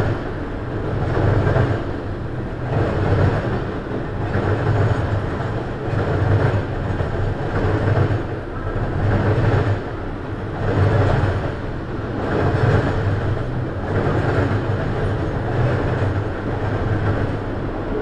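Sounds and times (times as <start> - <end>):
train wheels rumbling and clacking: 0.0 - 18.0.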